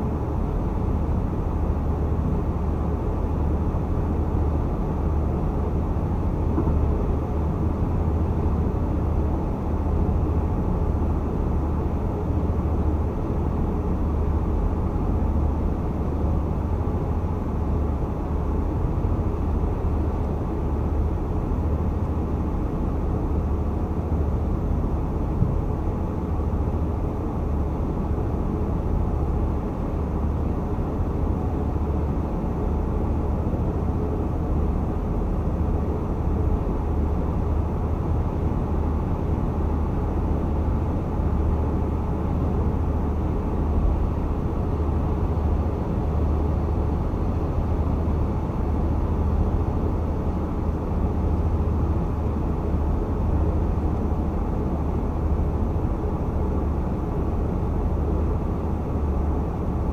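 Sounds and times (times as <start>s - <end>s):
car driving at highway speed: 0.0s - 59.9s.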